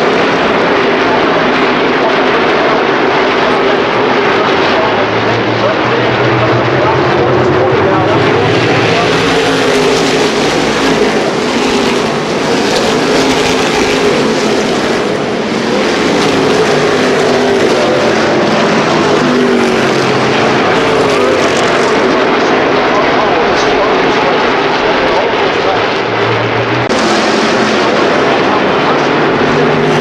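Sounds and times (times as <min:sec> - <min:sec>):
race car engines at high revs: 0:00.0 - 0:30.0.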